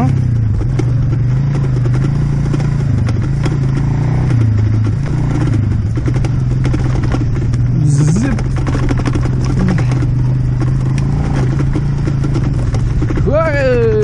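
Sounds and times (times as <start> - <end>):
atv engine running: 0.0 - 14.0
scooter rattling on dirt track: 0.0 - 14.0.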